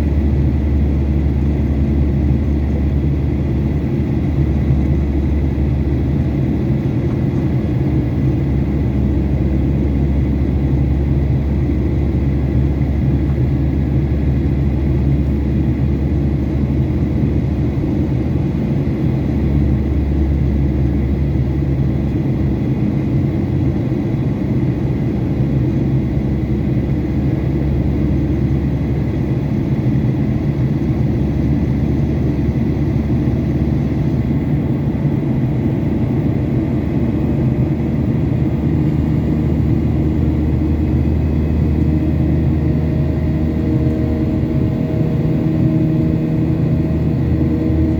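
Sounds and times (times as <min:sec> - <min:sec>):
jet engines rumbling: 0:00.0 - 0:47.9.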